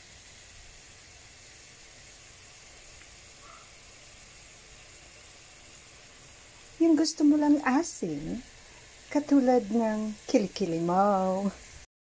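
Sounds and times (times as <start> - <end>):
onions sizzling in a pan: 0.0 - 11.9.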